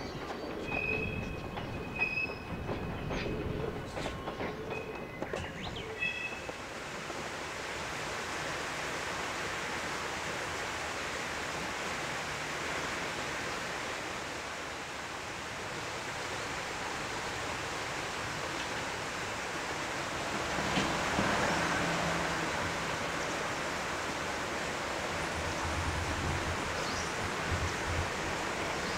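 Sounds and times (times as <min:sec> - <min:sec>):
steady rushing outdoor noise: 0:00.0 - 0:28.9.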